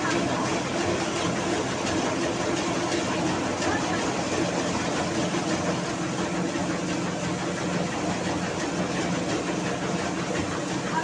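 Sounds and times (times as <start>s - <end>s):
rice mill running: 0.0s - 11.0s.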